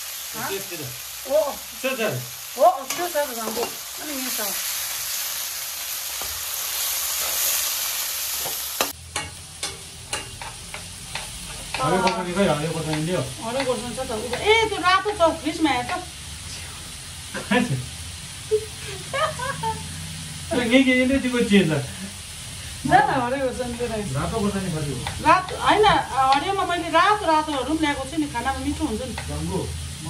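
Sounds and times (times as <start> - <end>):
meat sizzling in a wok: 0.0 - 30.0.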